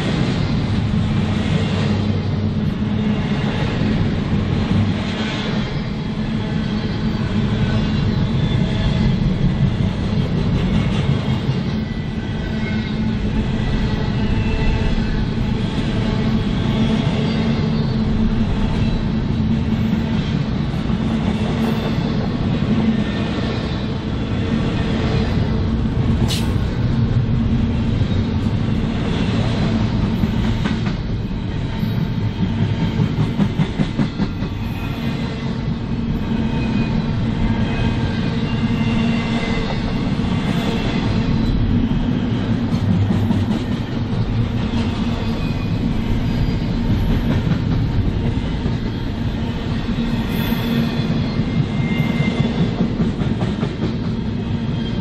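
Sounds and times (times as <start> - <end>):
train wheels clickety-clack on rails: 0.0 - 55.0.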